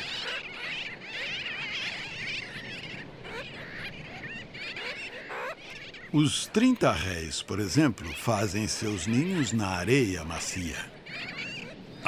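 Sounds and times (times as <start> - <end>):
chorus of seabird calls: 0.0 - 12.0.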